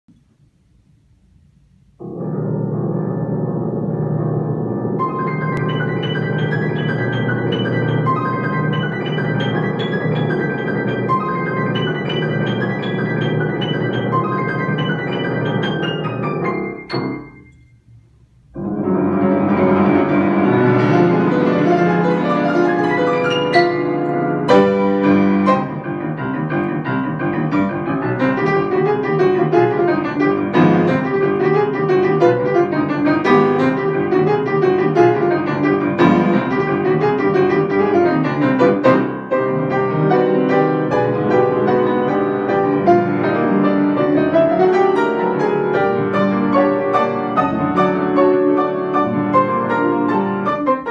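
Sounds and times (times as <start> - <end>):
spooky grand piano improvisation: 1.3 - 50.9.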